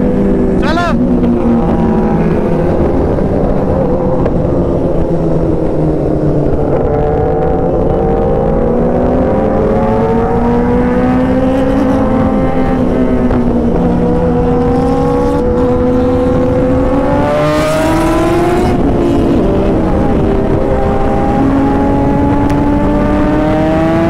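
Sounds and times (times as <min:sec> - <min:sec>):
motorcycle engines accelerating: 0:00.0 - 0:24.0
wind noise on microphone: 0:00.0 - 0:24.0.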